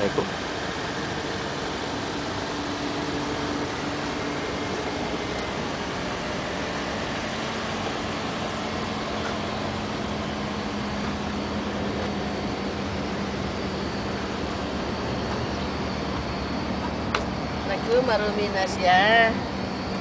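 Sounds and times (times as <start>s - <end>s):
machine hum and hiss: 0.0s - 20.0s.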